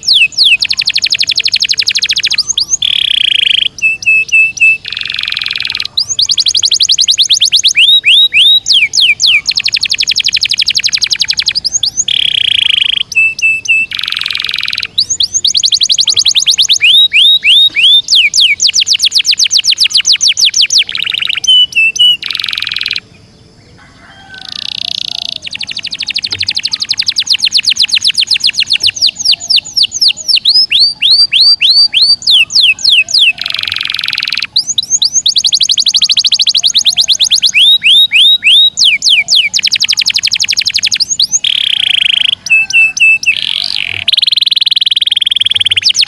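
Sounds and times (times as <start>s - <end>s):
canary singing: 0.0s - 46.0s.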